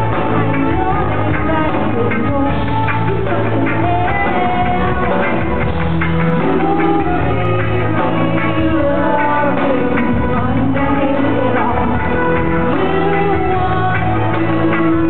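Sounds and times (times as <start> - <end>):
live pop-rock band playing: 0.0 - 15.0
woman singing: 0.0 - 15.0.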